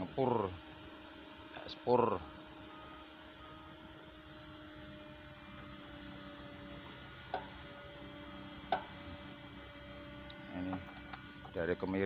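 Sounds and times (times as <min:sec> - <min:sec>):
excavator diesel engine hum: 0:00.0 - 0:12.0.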